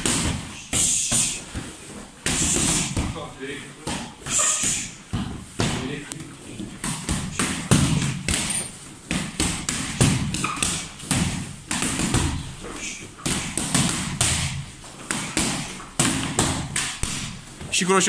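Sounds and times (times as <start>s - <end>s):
boxing gloves slapping focus mitts: 0.0s - 17.7s.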